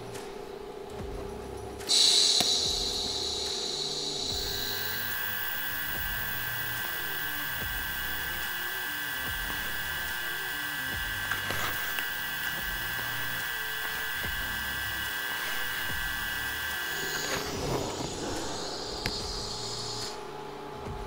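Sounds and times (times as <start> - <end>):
faint steady hum: 0.0 - 21.0
welding arc buzzing: 1.9 - 21.0.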